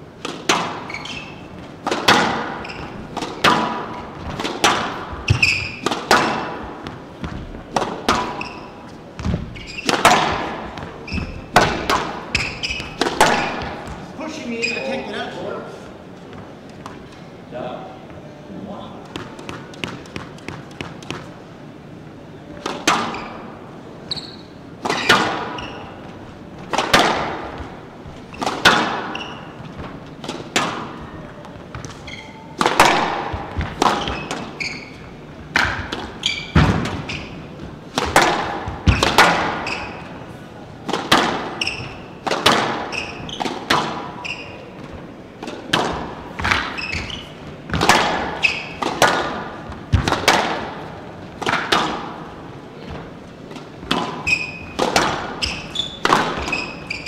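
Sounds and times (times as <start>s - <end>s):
court shoes squeaking: 0.0s - 17.4s, 18.0s - 57.0s
squash ball struck and hitting walls: 0.2s - 14.2s, 22.5s - 23.6s, 24.2s - 57.0s.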